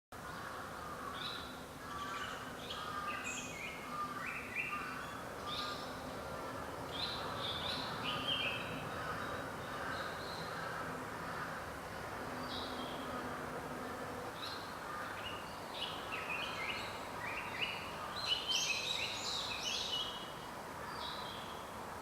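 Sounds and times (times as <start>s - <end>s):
outdoor background noise: 0.1s - 22.0s.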